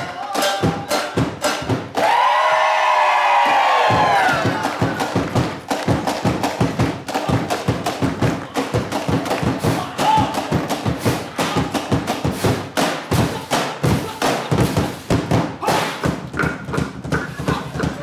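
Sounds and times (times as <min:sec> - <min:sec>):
percussion on pots and utensils: 0:00.0 - 0:02.2, 0:03.9 - 0:18.0.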